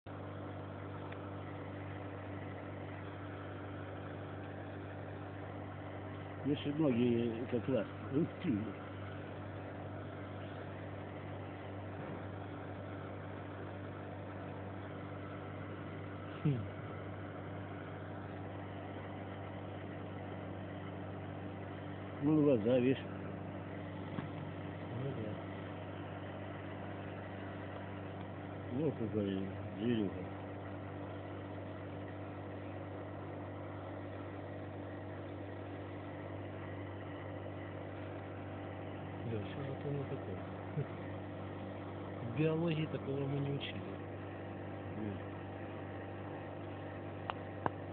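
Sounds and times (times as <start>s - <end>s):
motor humming steadily: 0.1s - 47.9s.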